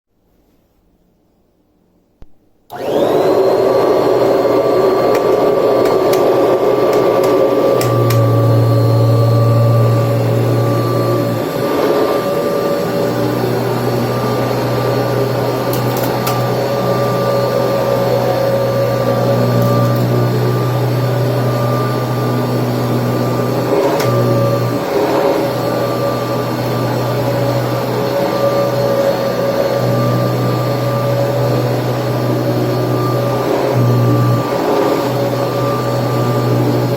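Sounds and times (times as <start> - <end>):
vacuum cleaner whine: 2.7 - 36.9.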